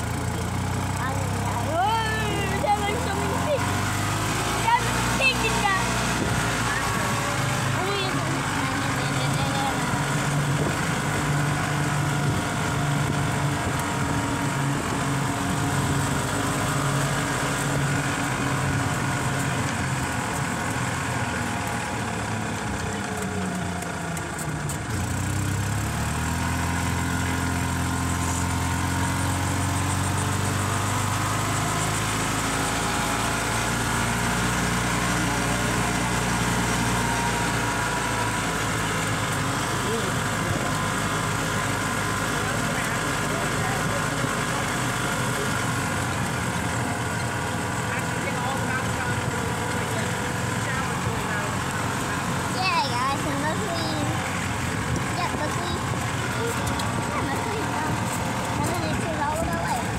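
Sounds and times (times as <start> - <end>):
golf cart motor humming: 0.0 - 59.9
road and wind noise: 0.0 - 59.9.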